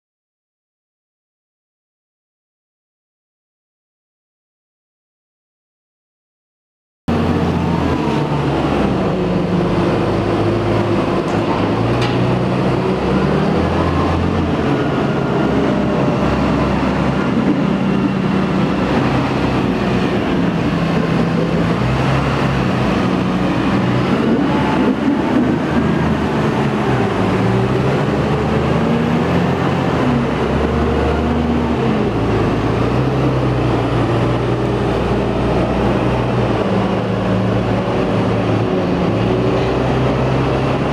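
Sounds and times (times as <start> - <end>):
tractor diesel engine under load: 7.1 - 40.9.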